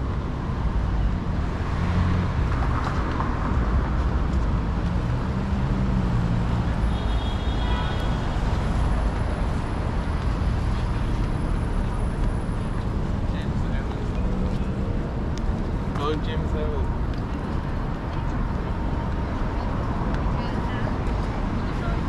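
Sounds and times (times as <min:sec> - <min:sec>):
car engines rumbling: 0:00.0 - 0:22.0.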